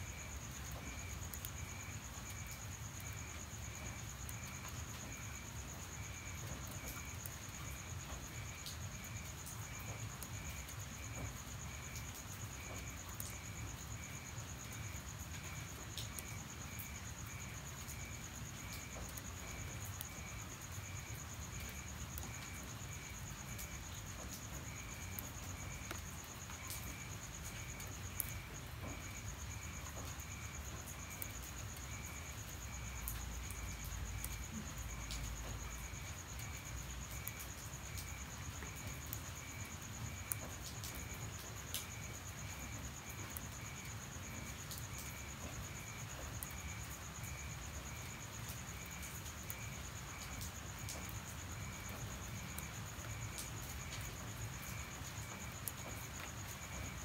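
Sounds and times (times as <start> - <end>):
insect chirping in pulses: 0.0 - 57.0
faint ticks: 0.1 - 57.0.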